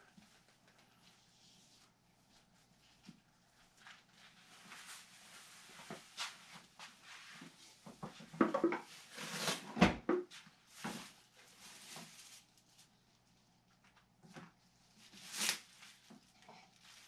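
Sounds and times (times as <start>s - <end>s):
rustling and scraping of materials: 0.0s - 17.0s.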